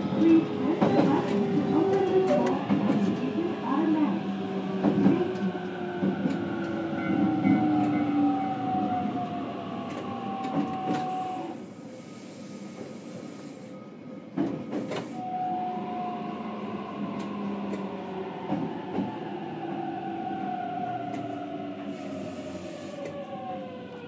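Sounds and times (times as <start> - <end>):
train inverter whine: 0.0 - 24.0
train running noise: 0.0 - 24.0.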